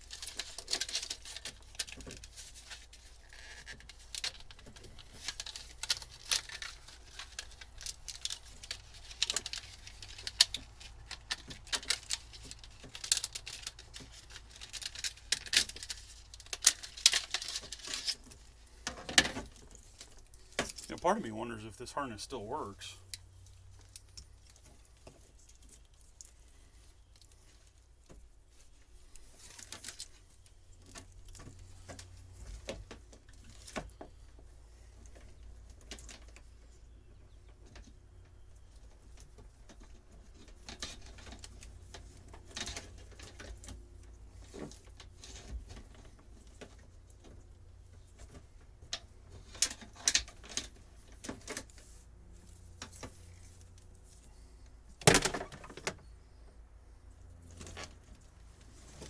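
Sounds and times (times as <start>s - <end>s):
wiring being handled: 0.0s - 36.7s, 38.6s - 56.0s
low steady hum: 3.8s - 59.0s.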